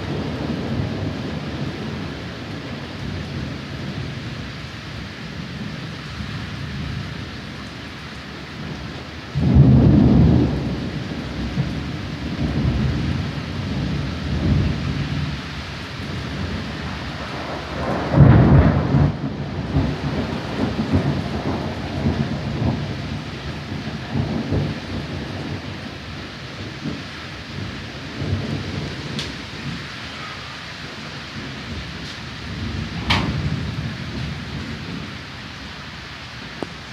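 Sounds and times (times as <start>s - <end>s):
thunder rolling: 0.0s - 4.2s, 8.6s - 35.8s
steady rain: 0.0s - 36.9s.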